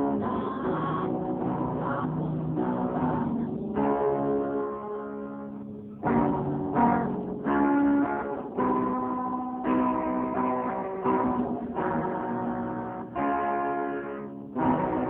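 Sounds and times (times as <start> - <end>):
clean electric guitar chords: 0.0 - 15.0.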